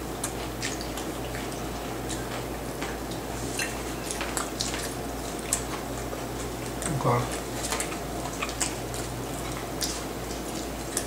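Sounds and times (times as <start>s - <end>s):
chewing and food handling clicks: 0.1s - 11.0s.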